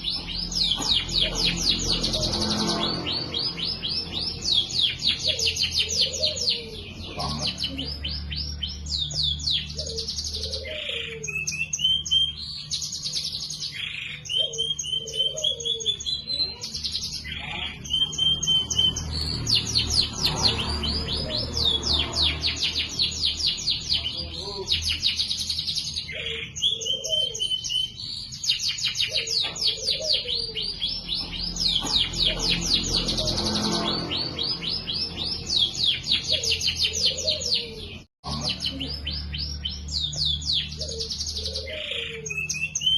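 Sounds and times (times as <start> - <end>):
canary singing: 0.0 - 42.9.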